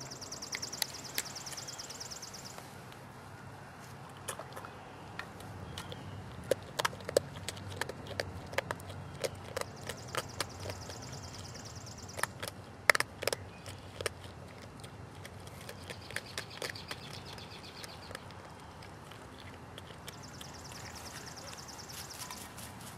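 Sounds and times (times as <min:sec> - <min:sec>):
porcupine crunching food: 0:00.0 - 0:22.9.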